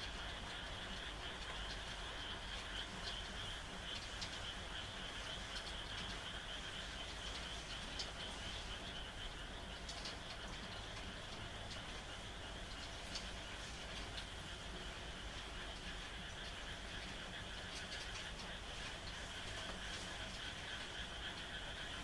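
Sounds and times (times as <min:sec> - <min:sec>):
frogs calling: 0:00.0 - 0:22.0
rain hiss: 0:00.0 - 0:22.0.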